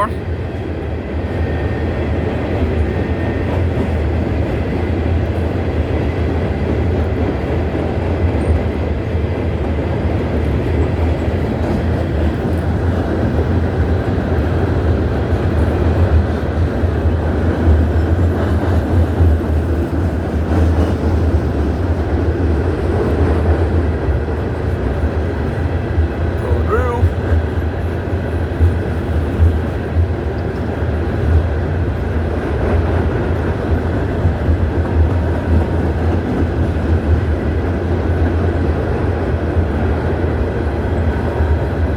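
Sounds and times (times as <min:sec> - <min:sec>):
train cars rolling on rails: 0:00.3 - 0:41.9.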